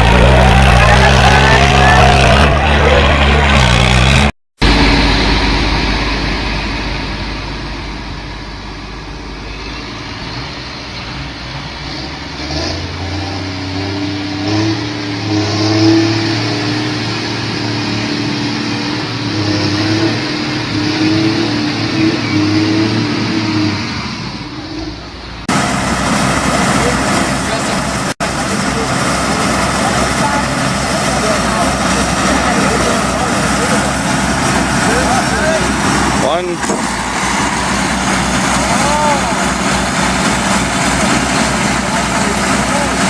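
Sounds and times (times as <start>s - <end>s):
heavy vehicle engine revving: 0.0s - 43.0s.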